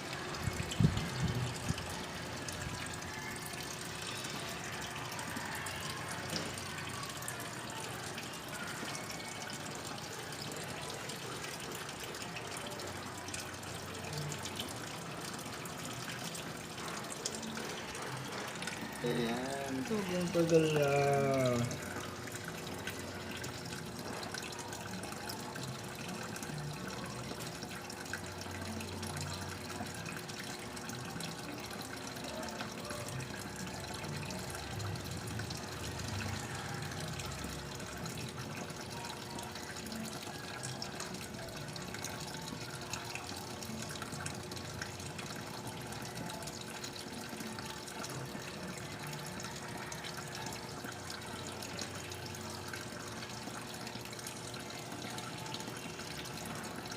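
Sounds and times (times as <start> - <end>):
water filling washing machine: 0.0 - 56.9.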